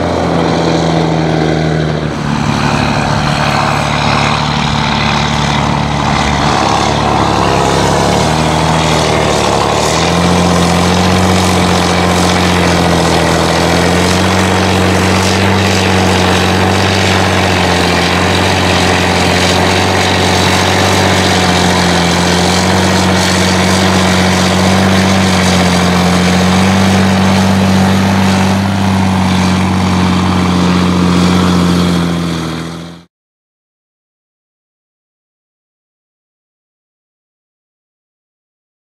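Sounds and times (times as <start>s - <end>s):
diesel tractor engine under load: 0.0s - 33.1s.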